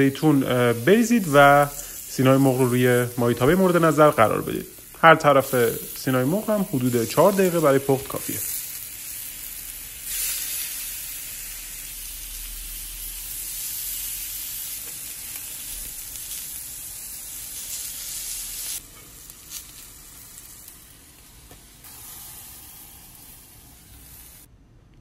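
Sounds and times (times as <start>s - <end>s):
chicken sizzling in a grill pan: 0.0s - 24.5s.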